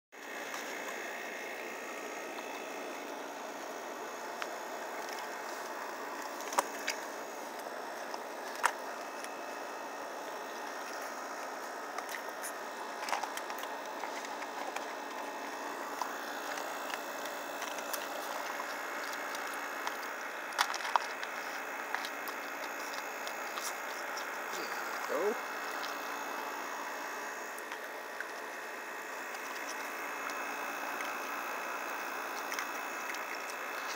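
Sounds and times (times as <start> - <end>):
steady background hum: 0.2 - 33.9
animals crunching crackers: 4.4 - 9.4, 10.6 - 33.9.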